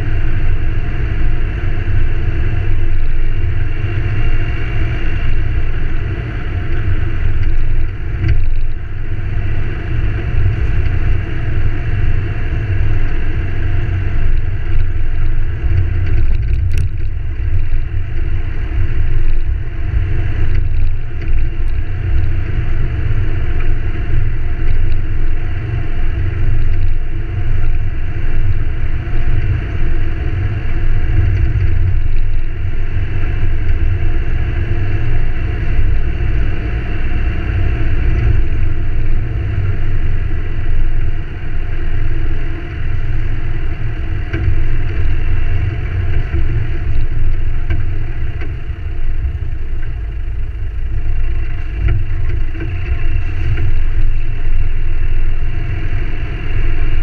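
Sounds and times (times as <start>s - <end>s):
tyres on dirt track: 0.0s - 57.0s
vehicle engine driving: 0.0s - 57.0s.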